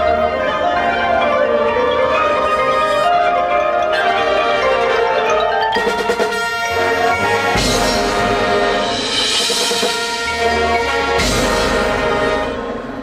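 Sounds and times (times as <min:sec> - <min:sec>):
heavy accented ensemble hits: 0:00.0 - 0:13.0
marching band playing chords: 0:00.0 - 0:13.0.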